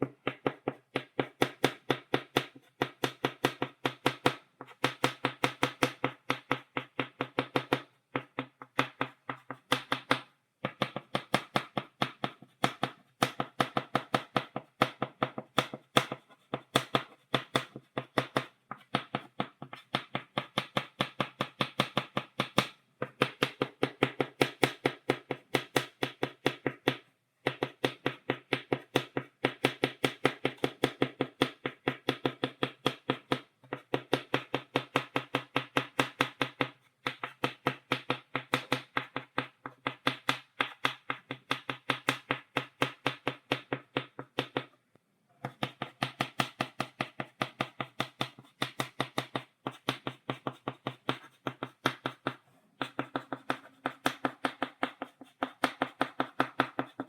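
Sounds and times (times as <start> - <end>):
chalk tapping on blackboard: 0.0 - 44.8, 45.4 - 57.0.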